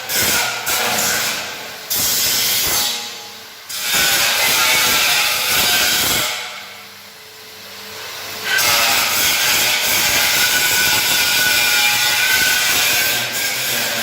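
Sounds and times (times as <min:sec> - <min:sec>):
power tool grinding metal: 0:00.0 - 0:06.6, 0:08.4 - 0:14.0.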